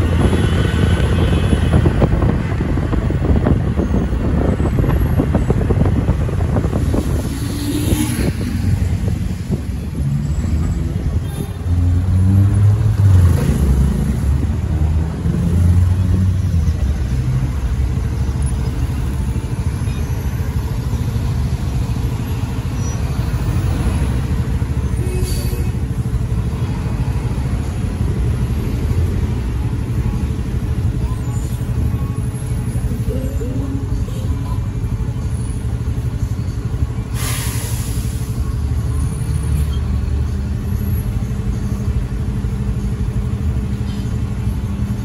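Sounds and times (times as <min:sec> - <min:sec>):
motorcycle engine rumbling: 0:00.0 - 0:37.2
road noise: 0:00.0 - 0:45.0.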